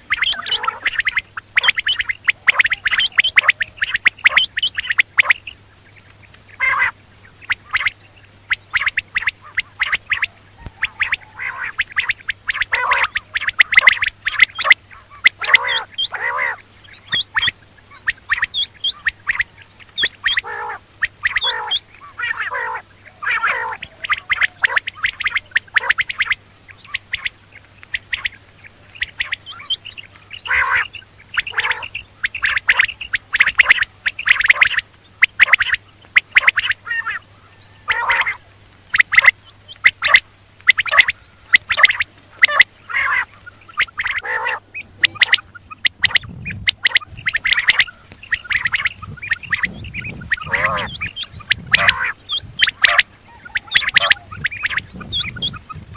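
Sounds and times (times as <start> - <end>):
quail calling: 0.0 - 55.9.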